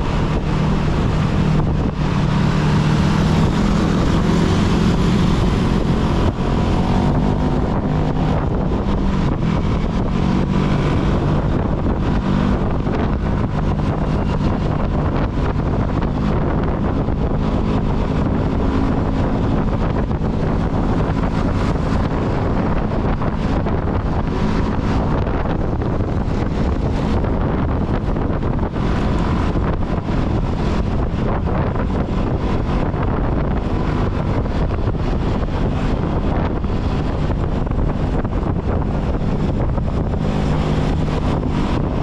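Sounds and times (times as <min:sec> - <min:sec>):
motorcycle engine running: 0:00.0 - 0:42.0
wind noise on microphone: 0:00.0 - 0:42.0.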